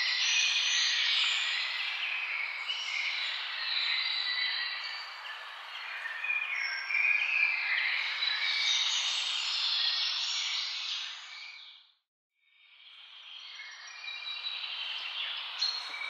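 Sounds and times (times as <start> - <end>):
birds singing and calling: 0.0 - 11.8, 13.4 - 16.0.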